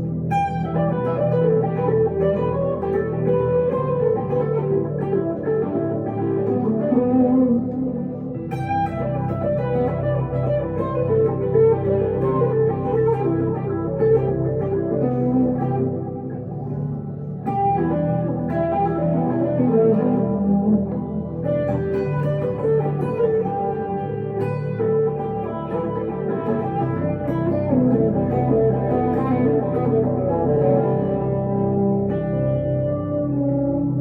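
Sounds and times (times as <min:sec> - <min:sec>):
electric guitar lead melody: 0:00.0 - 0:34.0.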